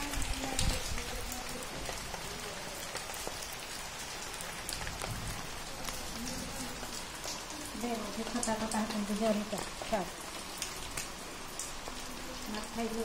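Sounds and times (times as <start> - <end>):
rain on concrete and roofs: 0.0 - 13.0.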